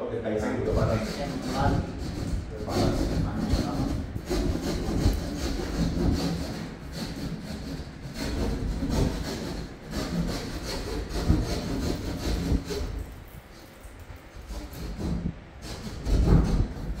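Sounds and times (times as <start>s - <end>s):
hand saw cutting panel: 0.8s - 13.6s, 14.5s - 17.0s.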